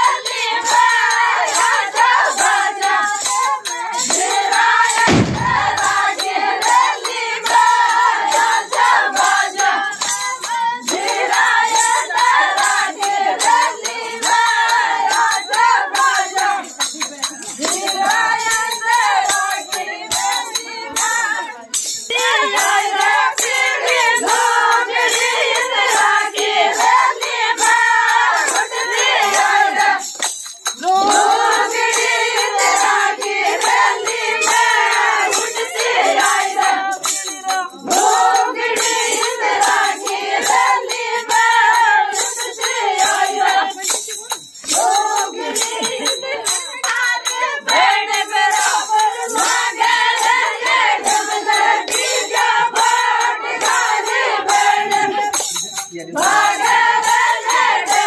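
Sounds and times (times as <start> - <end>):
group of women singing: 0.0 - 58.0
rhythmic jingling: 0.0 - 58.0.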